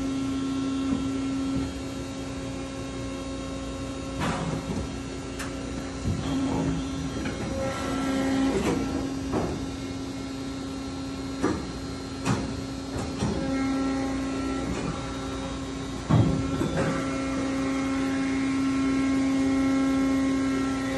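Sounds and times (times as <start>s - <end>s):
machine humming: 0.0s - 20.9s.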